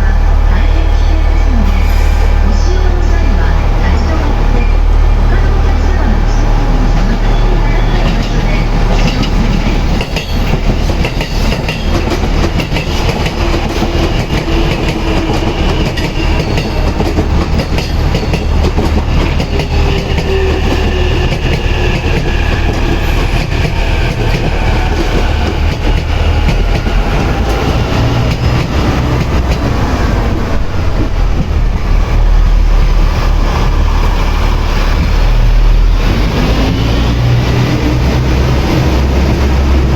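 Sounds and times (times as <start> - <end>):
diesel train engines: 0.0 - 39.9.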